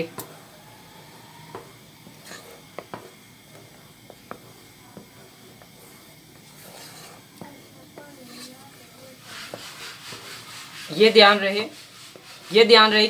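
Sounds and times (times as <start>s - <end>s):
wooden spatula stirring in pan: 0.1s - 13.0s.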